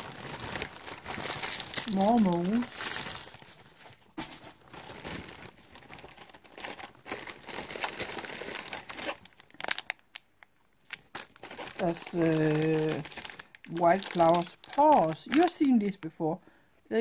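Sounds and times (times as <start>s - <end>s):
plastic pouches crinkling: 0.0s - 16.1s.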